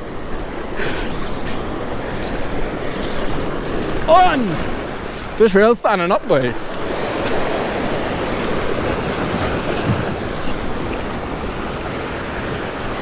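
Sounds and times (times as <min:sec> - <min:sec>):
sea surf washing: 0:00.0 - 0:13.0.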